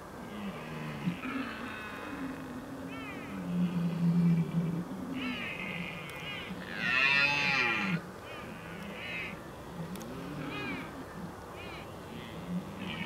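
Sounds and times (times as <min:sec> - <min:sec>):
deer stags roaring: 0:00.3 - 0:11.3.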